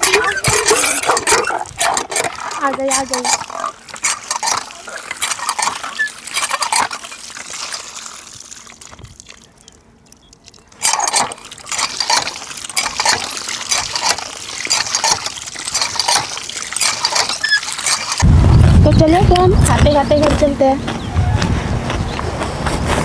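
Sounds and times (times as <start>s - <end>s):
water gushing and splashing: 0.0s - 20.1s.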